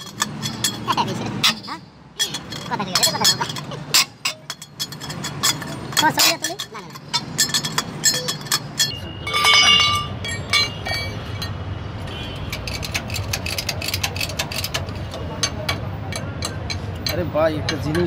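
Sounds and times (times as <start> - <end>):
metal tools clinking on wheel: 0.0 - 18.0
metallic clang: 0.0 - 18.0.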